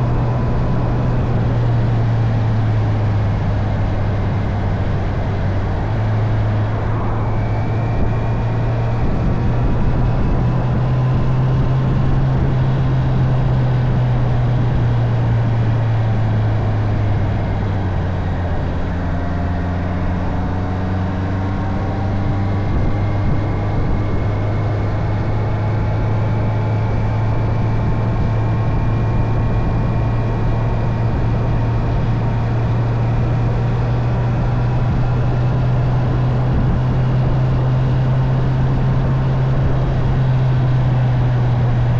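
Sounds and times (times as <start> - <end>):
motorcycle engine cruising: 0.0 - 41.9
wind noise: 0.0 - 41.9.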